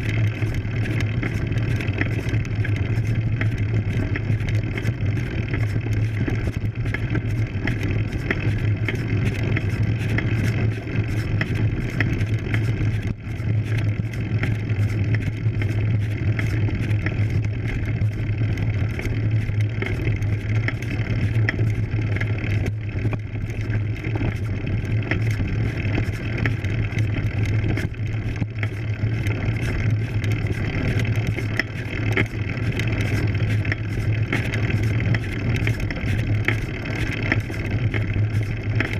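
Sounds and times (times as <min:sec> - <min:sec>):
bike tyres on gravel: 0:00.0 - 0:38.9
constant low hum: 0:00.0 - 0:38.9.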